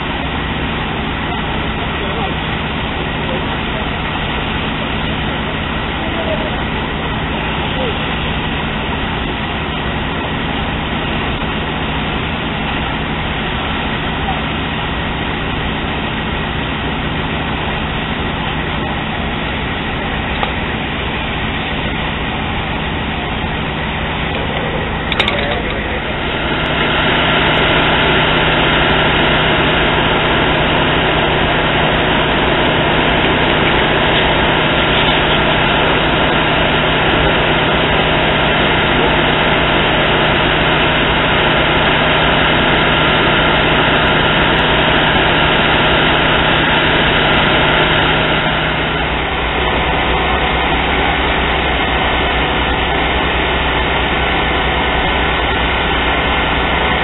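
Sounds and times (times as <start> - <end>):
diesel engines and pumps droning: 0.0 - 57.0.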